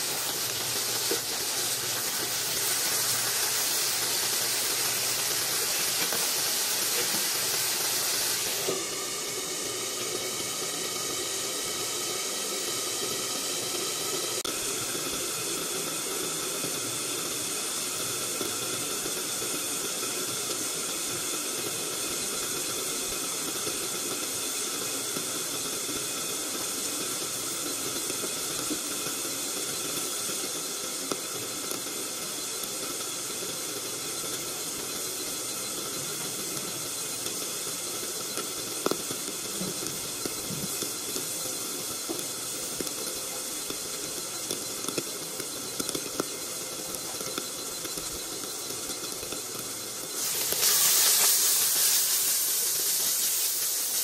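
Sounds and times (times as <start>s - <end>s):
fat sizzling in a wok: 0.0s - 54.0s.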